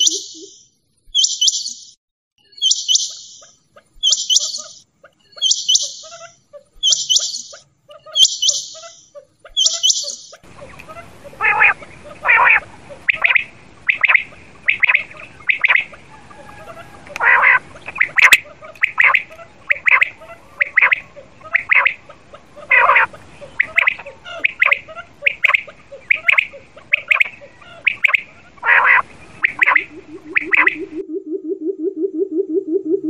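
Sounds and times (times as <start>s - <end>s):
quail calling: 0.0s - 1.9s, 2.6s - 31.0s.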